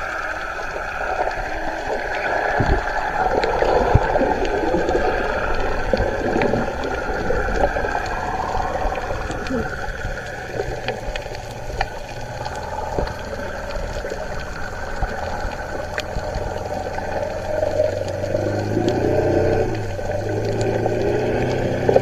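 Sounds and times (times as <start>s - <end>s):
boat engine droning underwater: 0.0s - 22.0s.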